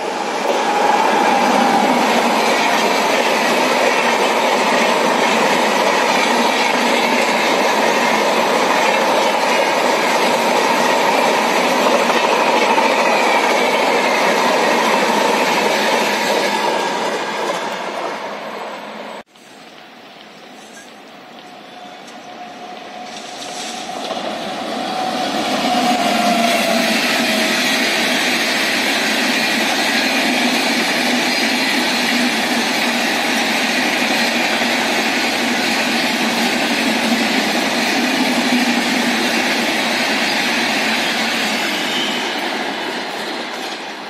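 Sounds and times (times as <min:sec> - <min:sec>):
train passing at speed: 0:00.0 - 0:44.0
train wheels rushing on rails: 0:00.0 - 0:44.0.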